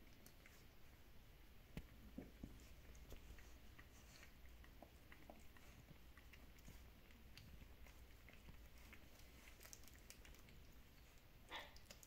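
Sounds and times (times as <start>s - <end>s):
puppies nursing wet clicks: 0.0s - 12.0s.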